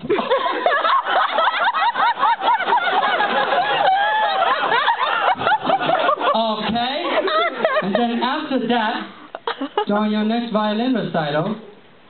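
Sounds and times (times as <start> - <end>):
audience laughing: 0.0 - 9.9.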